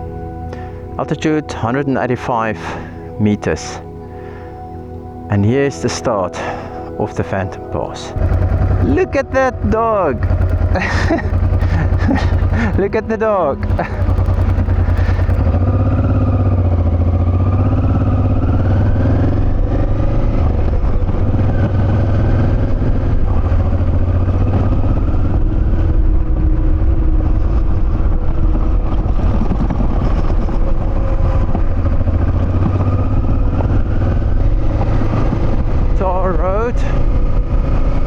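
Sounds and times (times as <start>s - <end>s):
motorcycle engine rumbling: 6.3s - 38.0s.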